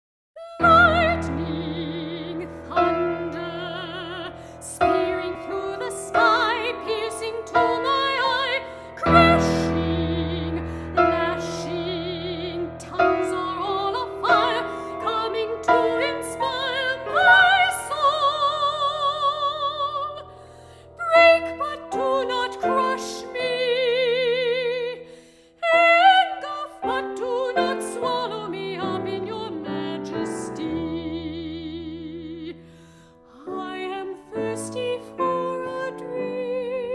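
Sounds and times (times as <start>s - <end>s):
piano accompaniment: 0.4s - 36.9s
soprano singing with vibrato: 0.4s - 36.9s.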